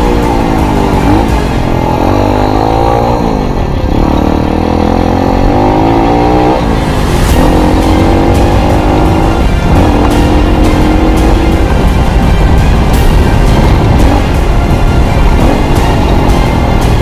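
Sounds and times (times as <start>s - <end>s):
motocross bike engine accelerating: 0.0s - 17.0s.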